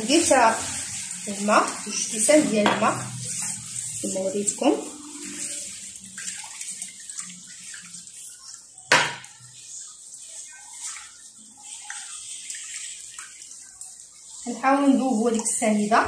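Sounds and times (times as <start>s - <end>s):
hand stirring wet mixture in bowl: 0.0s - 16.0s.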